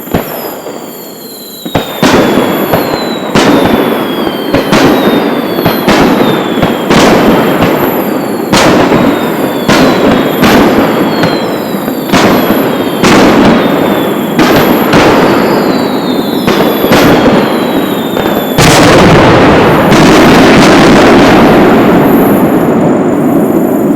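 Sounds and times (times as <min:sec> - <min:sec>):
falling firework whistles: 0:00.0 - 0:23.9
firework shells bursting: 0:00.0 - 0:23.9
fireworks crackling: 0:00.0 - 0:23.9.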